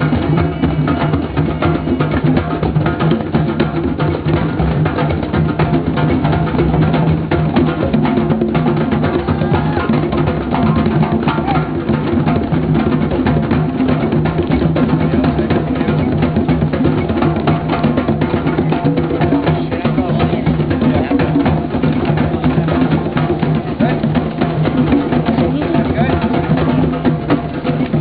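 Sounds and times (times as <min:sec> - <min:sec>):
drums played fast: 0:00.0 - 0:28.0.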